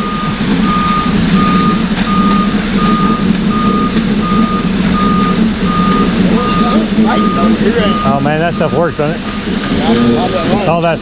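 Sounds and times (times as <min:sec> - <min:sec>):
backup alarm beeping: 0:00.0 - 0:10.8
truck engine running: 0:00.0 - 0:11.0.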